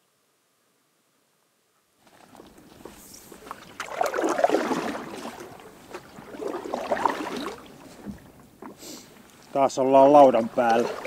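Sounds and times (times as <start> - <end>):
water sloshing and gurgling: 2.0 - 11.0.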